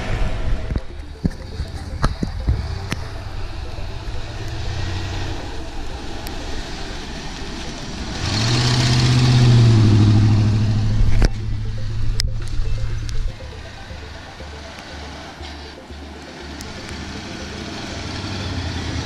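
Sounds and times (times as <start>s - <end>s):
pickup truck engine passing: 0.0s - 19.0s
tyres churning snow: 1.5s - 19.0s.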